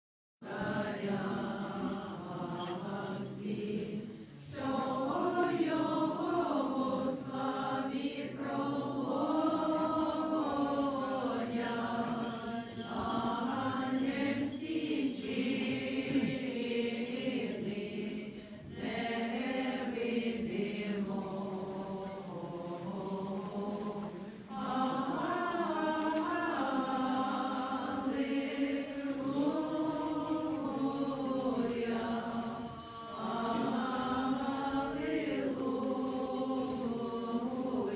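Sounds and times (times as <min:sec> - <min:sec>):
group singing liturgical chant: 0:00.4 - 0:37.9.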